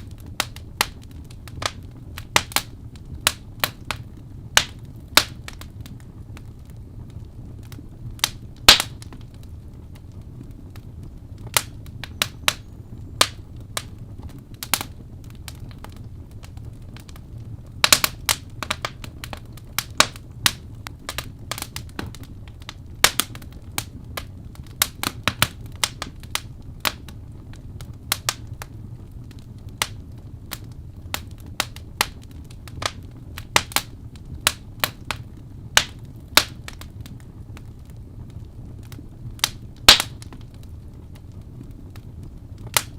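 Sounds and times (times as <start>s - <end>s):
fire crackling and popping: 0.0s - 42.9s
low rumble of burning: 0.0s - 42.9s.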